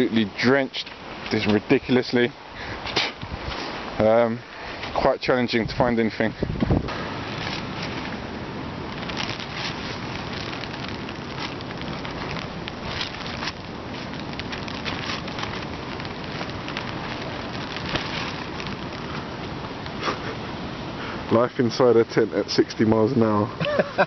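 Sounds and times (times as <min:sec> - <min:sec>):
rain drops pattering: 0:00.0 - 0:24.0
wind: 0:00.0 - 0:24.0.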